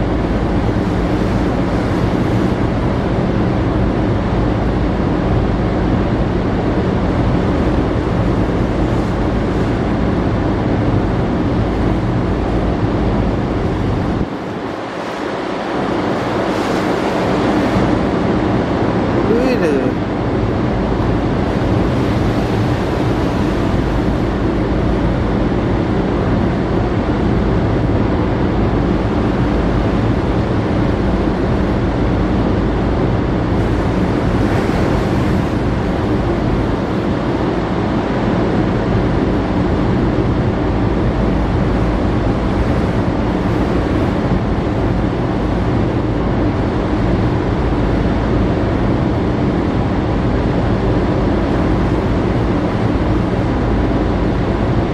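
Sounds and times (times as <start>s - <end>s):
open sea rushing: 0.0s - 54.9s
ship engine hum: 0.0s - 54.9s
wind noise on microphone: 0.0s - 54.9s.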